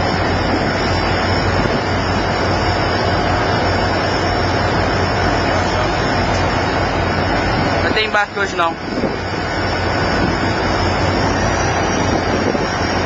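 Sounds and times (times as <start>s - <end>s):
faint steady whine: 0.0s - 13.0s
low engine hum: 0.0s - 13.0s
rush of wind and water: 0.0s - 13.0s.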